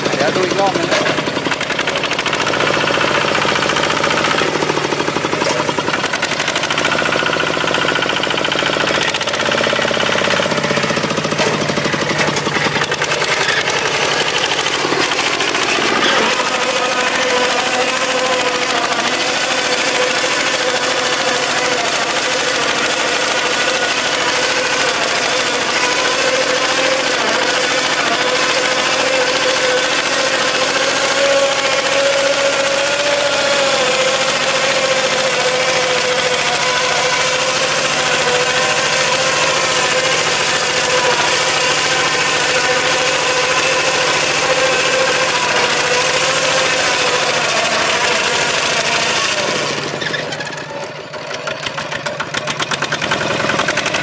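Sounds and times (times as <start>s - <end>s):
diesel engine running under load: 0.0s - 54.0s
rotary tiller churning soil: 0.0s - 54.0s.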